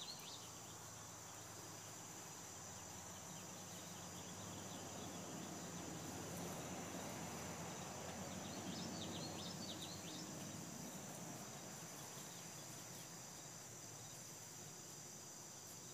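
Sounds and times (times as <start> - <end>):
insects singing: 0.0 - 15.9.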